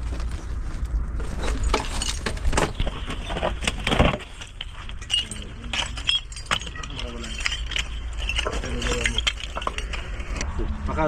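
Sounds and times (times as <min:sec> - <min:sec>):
hard objects clinking and knocking: 0:01.2 - 0:10.4.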